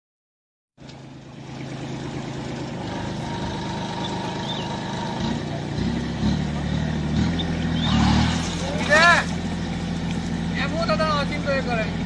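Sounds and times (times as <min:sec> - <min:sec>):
tractor engine running: 0:00.8 - 0:12.0.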